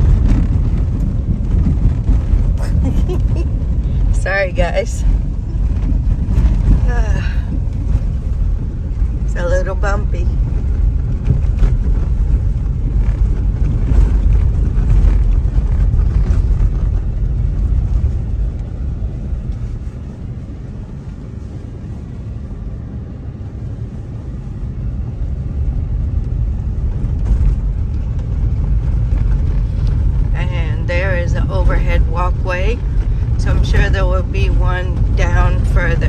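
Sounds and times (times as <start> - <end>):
car road noise rumble: 0.0 - 36.0.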